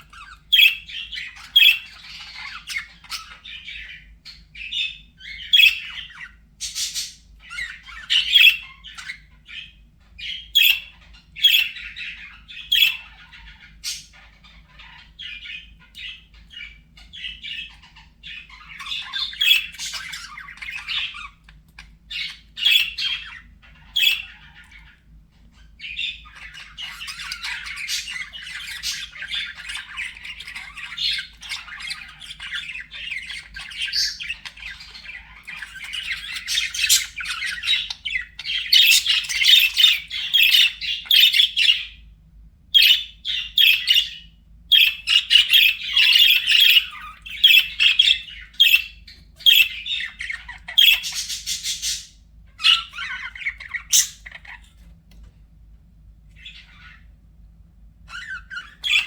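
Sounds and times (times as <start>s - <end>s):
budgerigars chattering: 0.0s - 42.1s, 42.7s - 54.8s, 56.3s - 57.1s, 58.1s - 59.0s.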